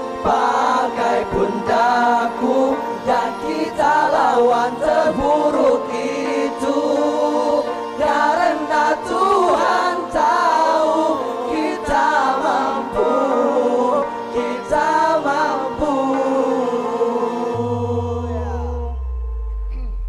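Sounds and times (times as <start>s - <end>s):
vocal group singing in harmony: 0.0s - 19.9s.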